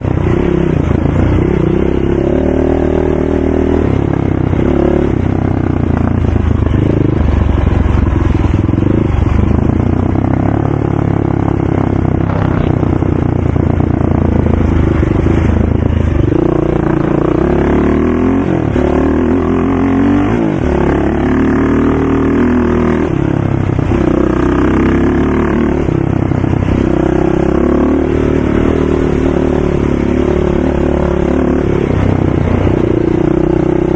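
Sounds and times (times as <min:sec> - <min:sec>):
racing atv engine running hard: 0:00.0 - 0:33.9.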